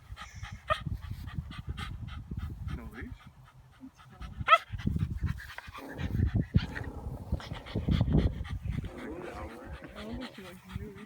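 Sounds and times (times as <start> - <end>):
puppy panting: 0.0 - 11.0.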